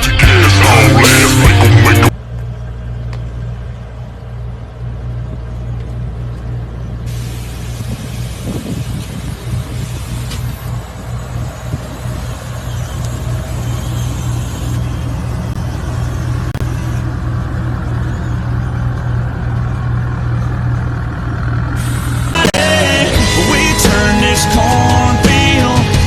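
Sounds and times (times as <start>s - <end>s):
truck engine droning: 0.0s - 26.0s.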